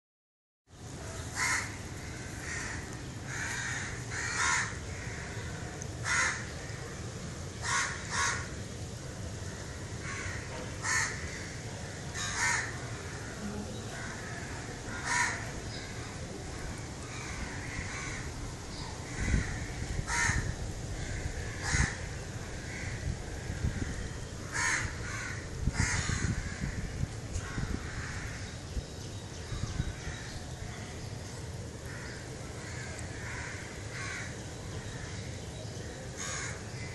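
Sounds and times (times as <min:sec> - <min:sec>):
low background noise: 0:00.7 - 0:36.9
crows cawing: 0:01.4 - 0:06.9, 0:07.6 - 0:08.6, 0:09.4 - 0:18.4, 0:19.1 - 0:28.5, 0:30.0 - 0:30.4, 0:31.8 - 0:35.3, 0:36.2 - 0:36.9.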